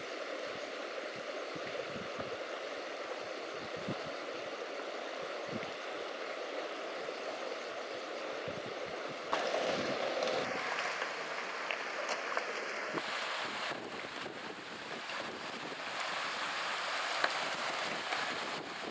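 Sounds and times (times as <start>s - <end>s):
stream rushing over stones: 0.0s - 18.9s.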